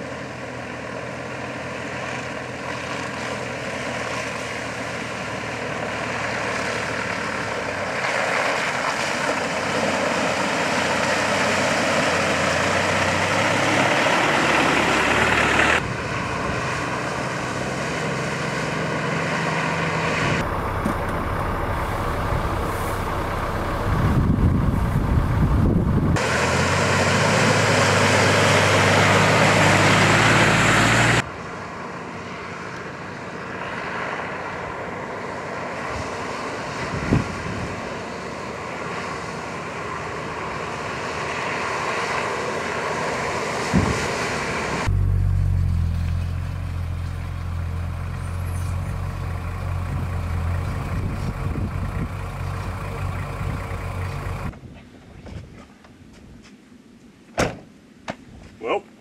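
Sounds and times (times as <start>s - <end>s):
vehicle engine and tyre noise: 0.0s - 58.6s.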